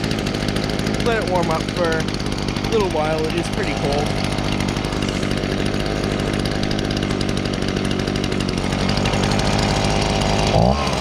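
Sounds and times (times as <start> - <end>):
leaf blower engine running: 0.0 - 11.0.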